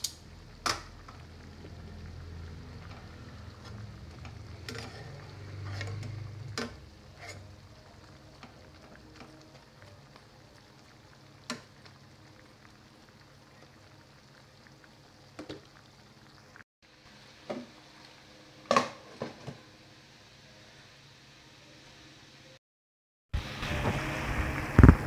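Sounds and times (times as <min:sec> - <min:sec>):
meat and onions simmering in pan: 0:00.0 - 0:22.5.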